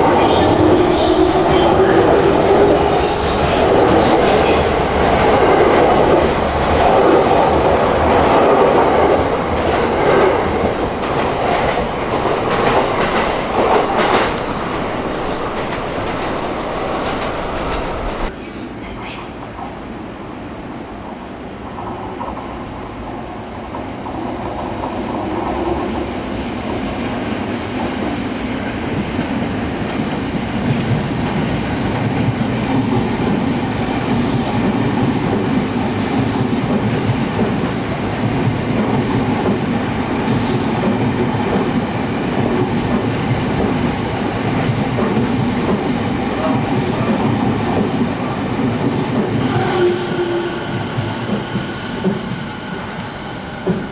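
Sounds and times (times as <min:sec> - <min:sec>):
electric train running: 0:00.0 - 0:18.3, 0:28.7 - 0:53.9.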